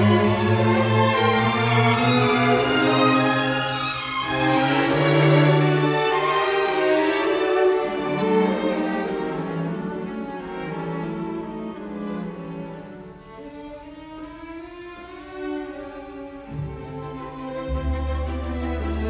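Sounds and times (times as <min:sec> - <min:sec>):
bowed strings music: 0:00.0 - 0:19.0.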